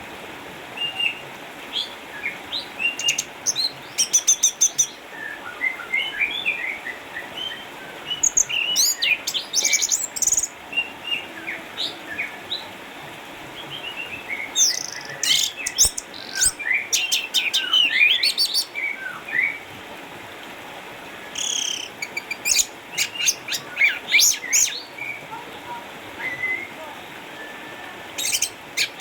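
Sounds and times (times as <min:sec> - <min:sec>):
thrush singing whistled song: 0:01.8 - 0:12.3, 0:13.8 - 0:19.6, 0:21.2 - 0:25.2, 0:26.1 - 0:29.0.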